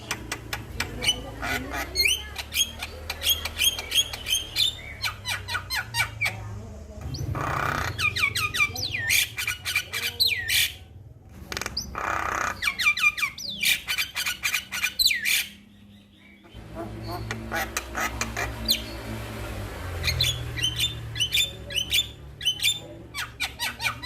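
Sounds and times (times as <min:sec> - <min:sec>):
myna bird singing: 0:00.0 - 0:24.0.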